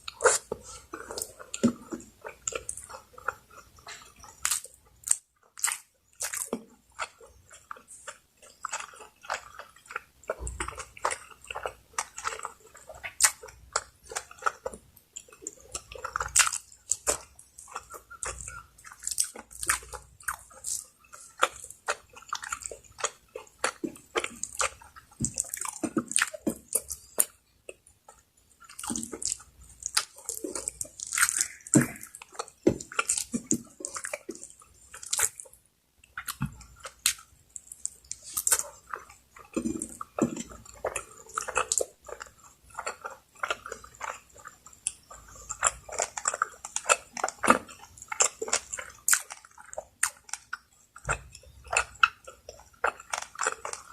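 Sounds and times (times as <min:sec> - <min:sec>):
person chewing: 0:00.0 - 0:53.9.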